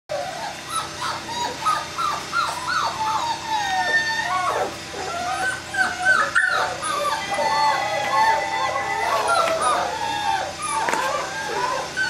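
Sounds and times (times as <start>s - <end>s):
puppies whimpering and yipping: 0.1s - 12.0s.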